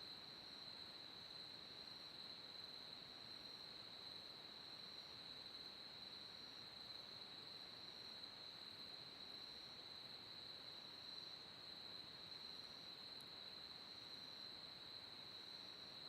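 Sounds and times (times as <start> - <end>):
low background hiss: 0.0 - 16.0.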